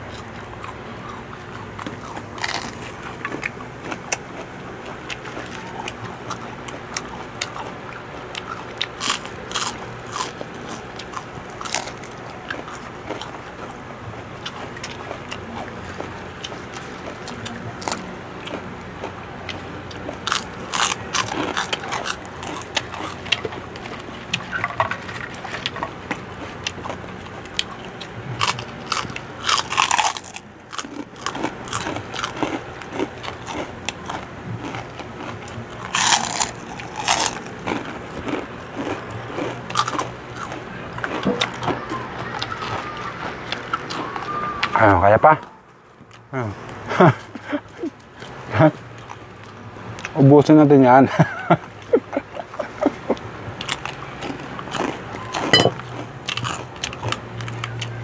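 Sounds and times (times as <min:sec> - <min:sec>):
crunchy pork rinds being chewed: 0:00.0 - 0:58.0.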